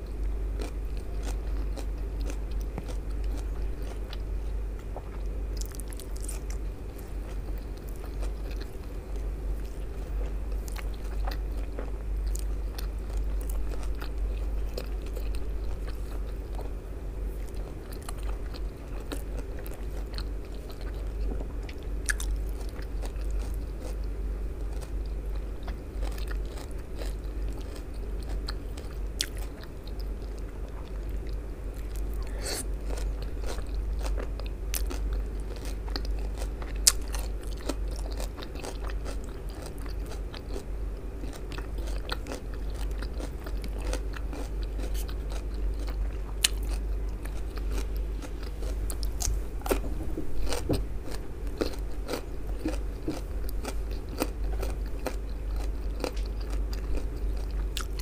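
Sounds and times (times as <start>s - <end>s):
chewing with crunches: 0.0s - 58.0s
steady low hum: 0.0s - 58.0s.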